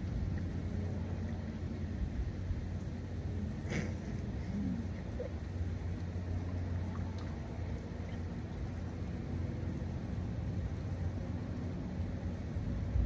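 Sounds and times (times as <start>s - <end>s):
faint hum: 0.0s - 13.0s
steady low rumble: 0.0s - 13.0s.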